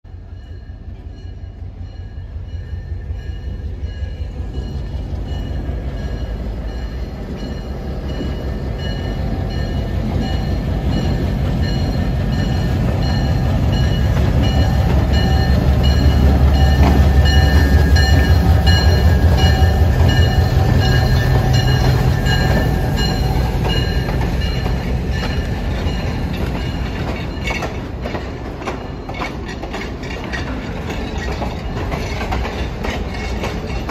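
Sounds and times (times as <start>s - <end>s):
diesel locomotive rumble: 0.1s - 33.9s
rail clicks: 0.3s - 33.9s.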